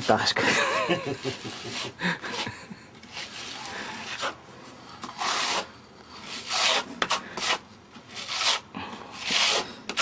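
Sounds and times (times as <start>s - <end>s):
trowel scraping render on wall: 1.1s - 4.4s, 5.0s - 10.0s.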